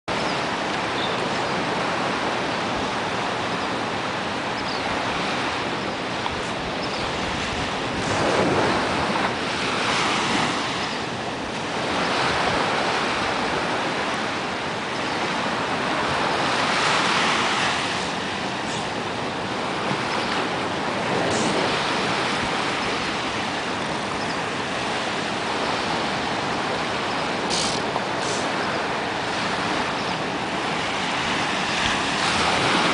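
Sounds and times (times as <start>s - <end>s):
ocean surf washing onto beach: 0.1s - 32.9s
wind on microphone: 0.1s - 32.9s.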